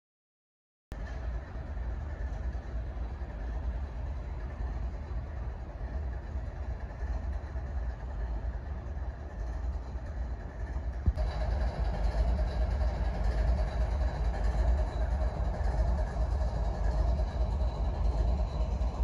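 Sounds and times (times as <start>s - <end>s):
diesel locomotive engines rumbling: 1.0s - 19.0s.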